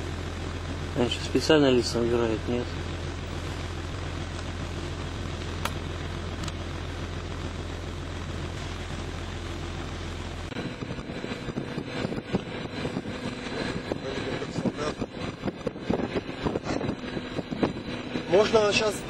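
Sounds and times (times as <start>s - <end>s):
vehicle idling rumble: 0.0s - 19.0s.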